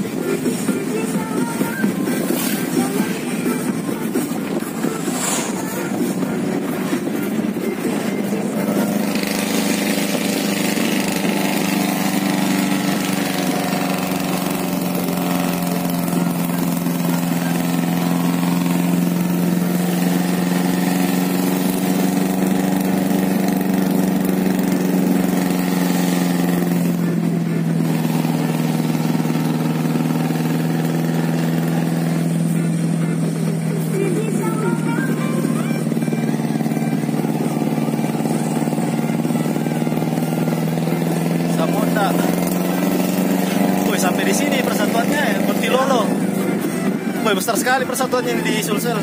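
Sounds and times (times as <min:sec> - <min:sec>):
car engine and road noise: 0:00.0 - 0:49.0.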